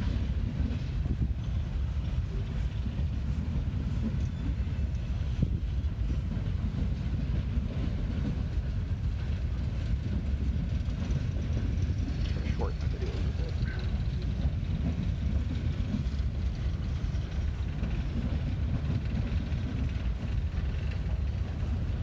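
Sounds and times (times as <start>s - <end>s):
freight train cars rumbling: 0.0s - 22.0s.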